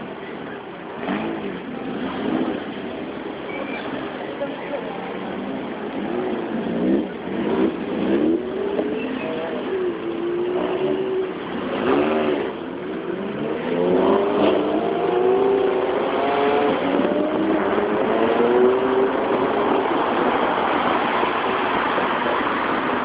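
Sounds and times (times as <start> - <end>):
car engines accelerating: 0.0 - 23.0
road and wind noise: 0.0 - 23.0.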